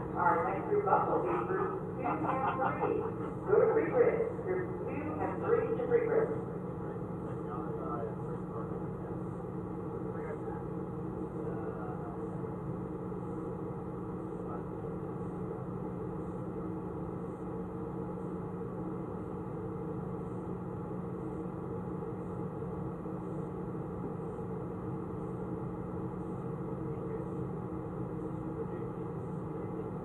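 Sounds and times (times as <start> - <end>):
low noisy bed: 0.0 - 30.0
steady hum with constant tones: 0.0 - 30.0.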